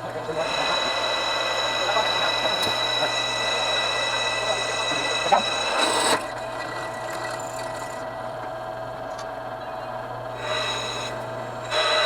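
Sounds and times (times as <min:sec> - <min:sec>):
drill press cutting into steel: 0:00.0 - 0:08.0, 0:10.4 - 0:12.0.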